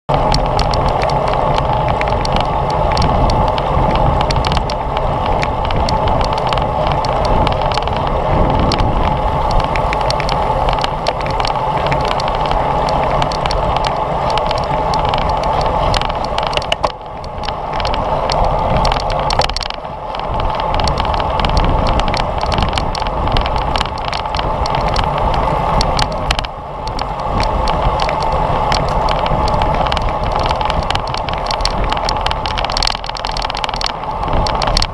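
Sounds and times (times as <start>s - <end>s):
bicycle road noise: 0.1s - 34.9s
wind rush: 0.1s - 34.9s.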